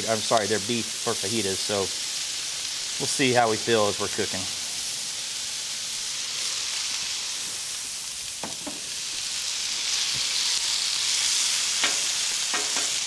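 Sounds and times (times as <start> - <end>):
meat sizzling on griddle: 0.0 - 13.0.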